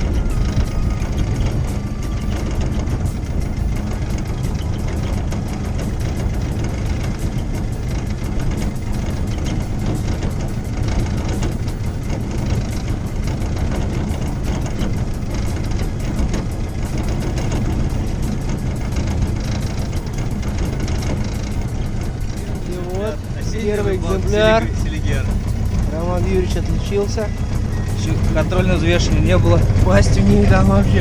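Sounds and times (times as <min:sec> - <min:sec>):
small outboard motor running: 0:00.0 - 0:31.0.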